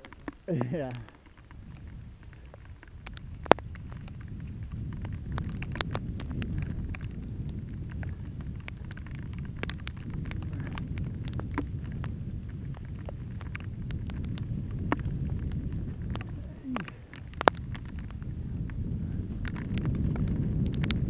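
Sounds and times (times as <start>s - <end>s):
bike clicks and rattles: 0.0s - 21.0s
bike tyres rumbling on trail: 0.0s - 21.0s
wind on microphone: 0.0s - 21.0s.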